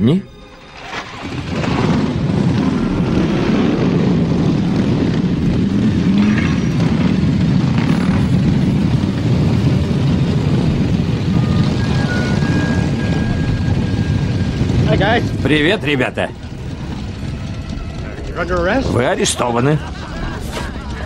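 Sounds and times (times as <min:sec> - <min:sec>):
motorcycle engines droning: 0:00.0 - 0:21.0.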